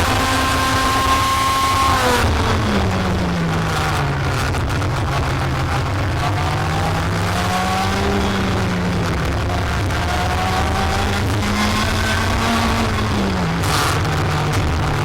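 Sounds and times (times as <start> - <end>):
kart engine running under load: 0.0 - 15.0.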